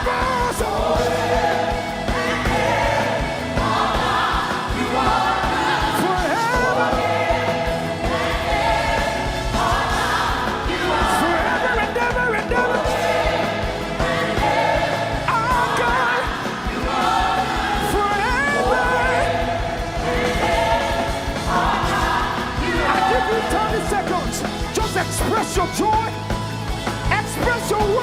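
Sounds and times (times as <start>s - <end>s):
choir singing along: 0.0s - 25.4s
gospel band playing: 0.0s - 28.0s.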